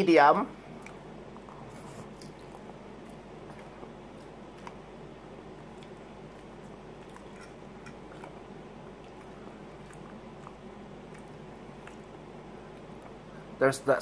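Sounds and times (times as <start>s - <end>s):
low steady hum: 0.0s - 14.0s
chewing: 0.7s - 4.9s, 5.6s - 13.2s.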